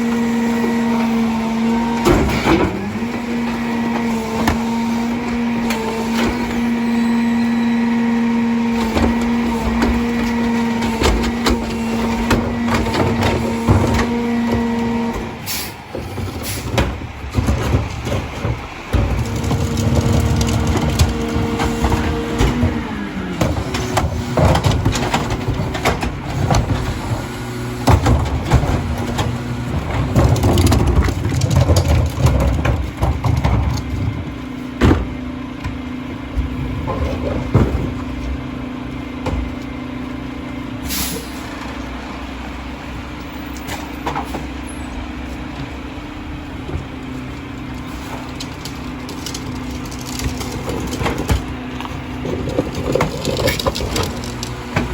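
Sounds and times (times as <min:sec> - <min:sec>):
bangs and clatter of trash dumping: 0:00.0 - 0:54.9
garbage truck engine: 0:00.0 - 0:54.9.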